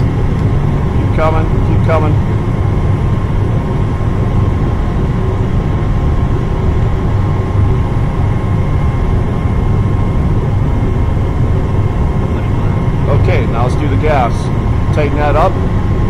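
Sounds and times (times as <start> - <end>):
faint high whine: 0.0 - 16.0
gas burners roaring: 0.0 - 16.0.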